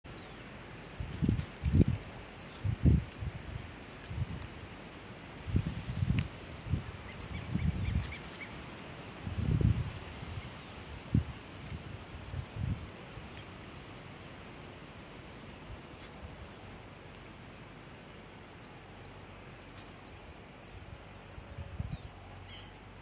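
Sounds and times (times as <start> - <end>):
nestlings peeping: 0.0 - 23.0.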